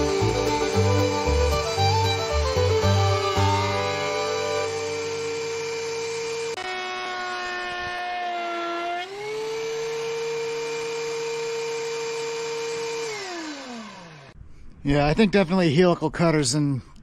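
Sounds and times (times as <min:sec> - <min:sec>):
thickness planer motor whine: 0:00.0 - 0:14.4.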